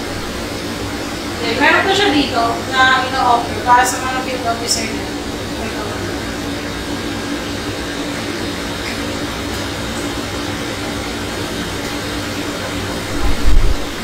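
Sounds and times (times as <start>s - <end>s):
faint steady hum: 0.0s - 14.0s
steady hissing noise: 0.0s - 14.0s.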